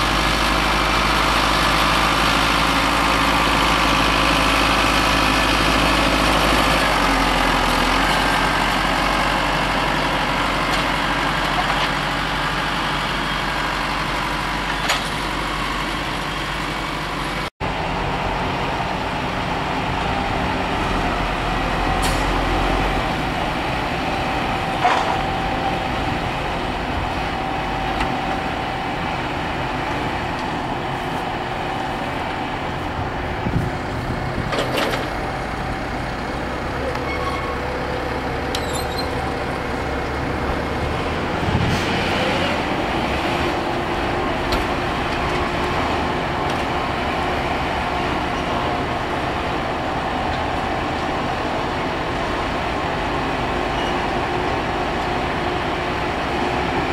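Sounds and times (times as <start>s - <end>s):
tractor engines running: 0.0s - 56.9s.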